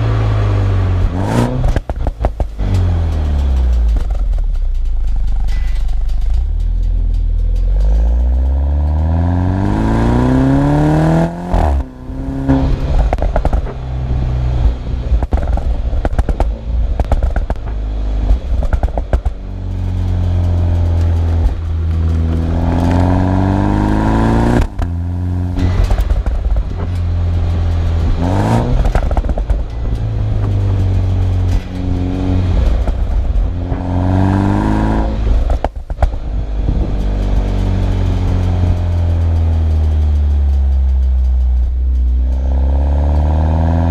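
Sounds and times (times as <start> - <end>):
car engine revving through gears: 0.0 - 4.2, 7.6 - 40.1, 42.1 - 43.9
exhaust pops and crackles: 0.0 - 43.9.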